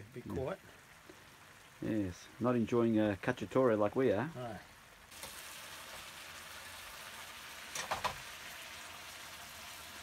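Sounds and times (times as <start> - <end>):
stew sizzling in a pan: 0.0 - 10.0.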